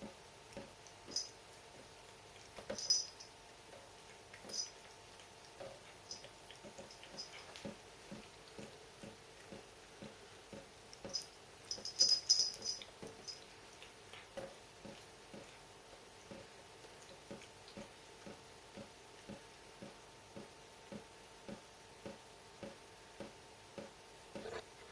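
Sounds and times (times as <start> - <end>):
water dripping from a tap: 0.5 - 23.9.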